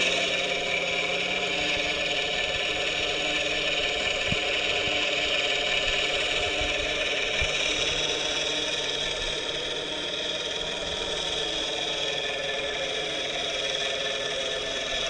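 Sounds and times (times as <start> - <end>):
quadcopter motors and propellers whirring: 0.0 - 15.0
simulated helicopter engine sound: 0.0 - 15.0.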